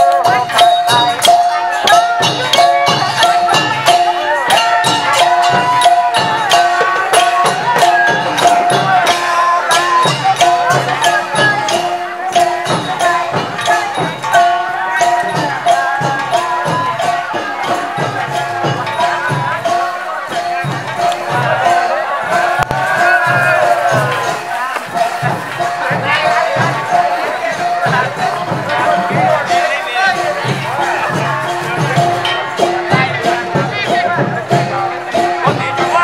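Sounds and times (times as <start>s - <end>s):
crowd voices: 0.0s - 36.0s
lively festive music: 0.0s - 36.0s
percussion hits: 0.0s - 36.0s.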